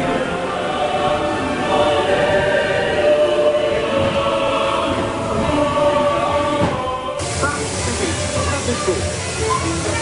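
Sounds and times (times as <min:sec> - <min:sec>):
choir holding sustained notes: 0:00.0 - 0:09.0.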